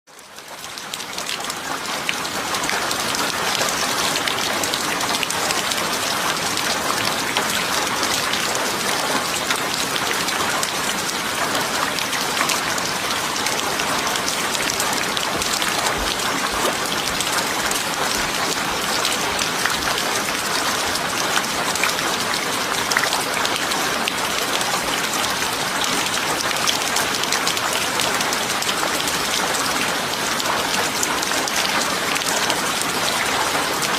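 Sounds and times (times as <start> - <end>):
steady rain patter: 0.1 - 33.9.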